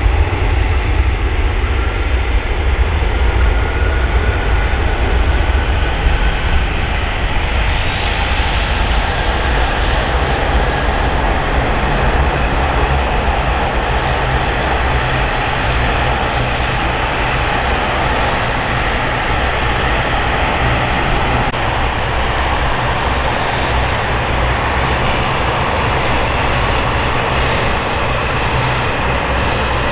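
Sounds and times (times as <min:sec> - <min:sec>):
jet engine whine: 0:00.0 - 0:29.9
jet engines roaring: 0:00.0 - 0:29.9.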